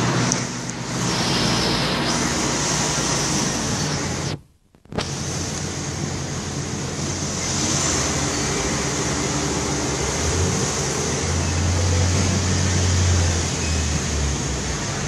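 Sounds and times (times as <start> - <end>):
low hum: 0.0 - 14.4
engine running: 0.0 - 15.0
steady rushing noise: 0.0 - 15.0.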